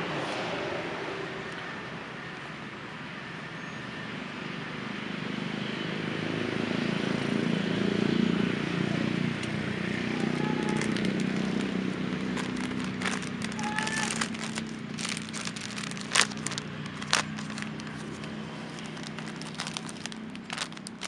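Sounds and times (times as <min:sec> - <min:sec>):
distant engine hum: 0:00.0 - 0:21.0.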